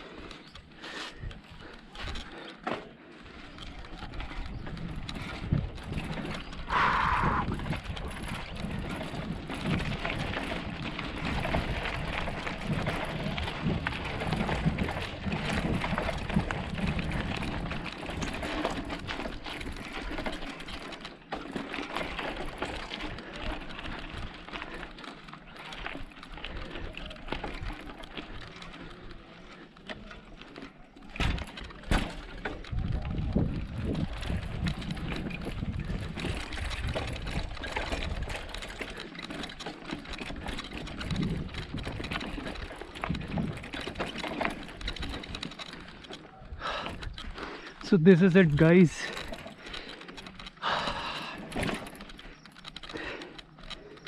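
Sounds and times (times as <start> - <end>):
bicycle rolling over rough track: 0.0 - 54.0.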